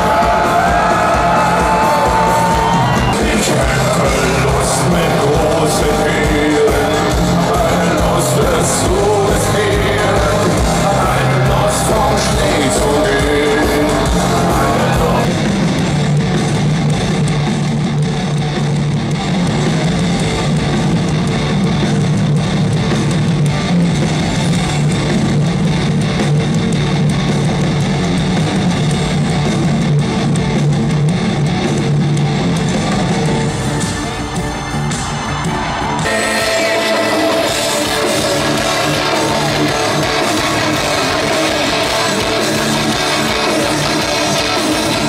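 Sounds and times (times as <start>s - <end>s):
heavy metal band playing: 0.0s - 45.0s.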